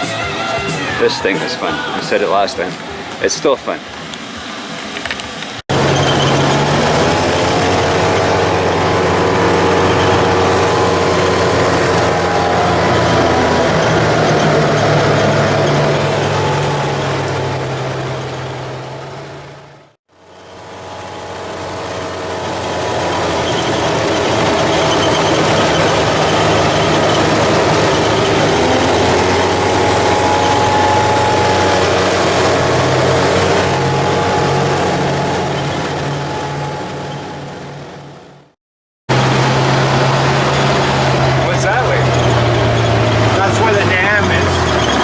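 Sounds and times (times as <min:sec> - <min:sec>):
ride noise: 0:00.0 - 0:38.5, 0:39.1 - 0:45.0
utility vehicle engine running: 0:00.0 - 0:45.0.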